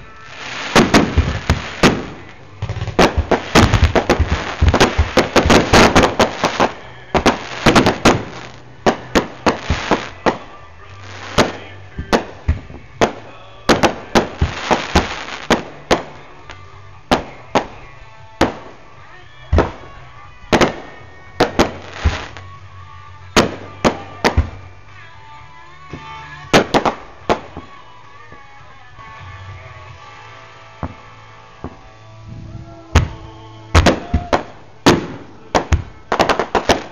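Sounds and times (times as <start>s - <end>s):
fireworks bangs and crackles: 0.0s - 22.5s, 23.3s - 25.0s, 25.9s - 28.5s, 30.8s - 36.9s.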